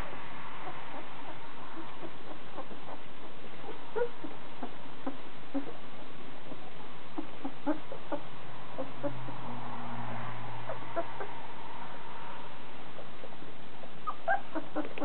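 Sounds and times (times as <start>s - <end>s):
puppies squeaking and whimpering: 0.0s - 9.5s, 10.6s - 11.4s, 13.0s - 15.0s
low steady hum: 0.0s - 15.0s.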